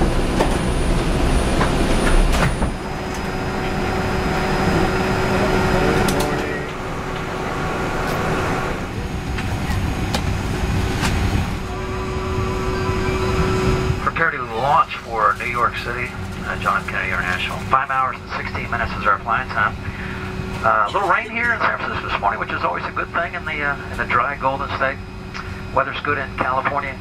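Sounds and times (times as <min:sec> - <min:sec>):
aircraft cabin machinery hum: 0:00.0 - 0:27.0.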